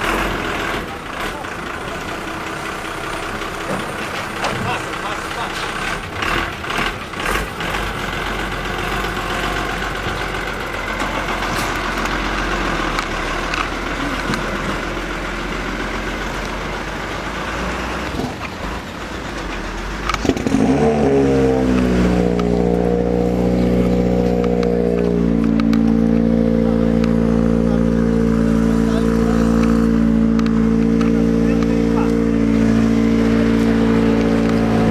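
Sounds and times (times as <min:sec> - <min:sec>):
truck engine: 0:00.0 - 0:34.9.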